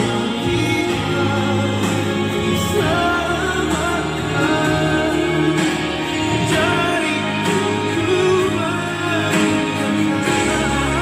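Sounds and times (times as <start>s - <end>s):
instrumental accompaniment: 0.0s - 11.0s
person singing worship song: 0.0s - 11.0s.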